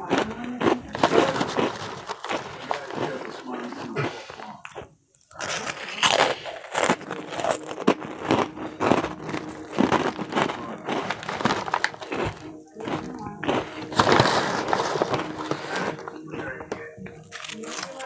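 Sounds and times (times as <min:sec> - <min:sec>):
chewing and crunching snack: 0:00.0 - 0:18.0
foil snack bag crinkling: 0:00.0 - 0:18.0.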